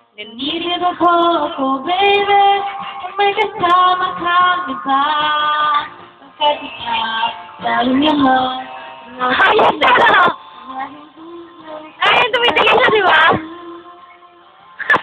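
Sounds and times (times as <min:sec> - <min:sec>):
woman singing into microphone: 0:00.2 - 0:15.0.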